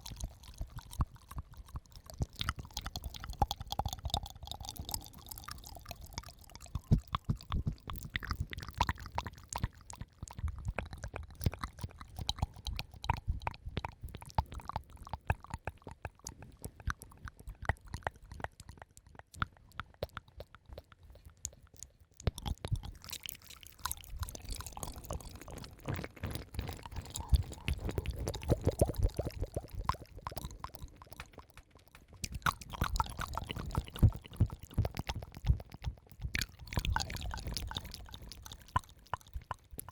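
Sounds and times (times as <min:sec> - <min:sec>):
wet mouth clicks and smacks: 0:00.0 - 0:39.9.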